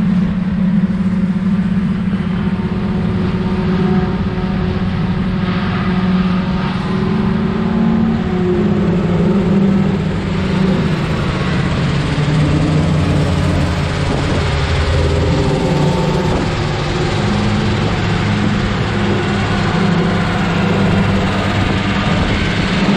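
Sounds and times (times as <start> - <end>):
truck diesel engine running: 0.0 - 22.9.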